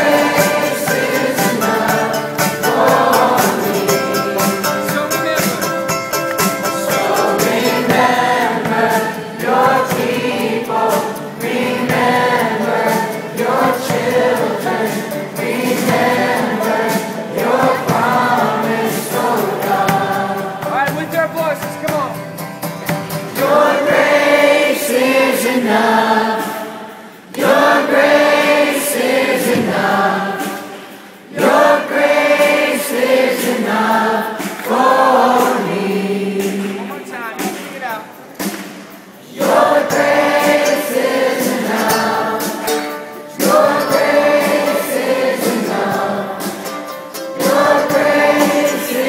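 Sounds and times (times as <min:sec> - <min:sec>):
crowd singing along: 0:00.0 - 0:21.4, 0:22.9 - 0:49.0
acoustic and electric guitars: 0:00.0 - 0:49.0.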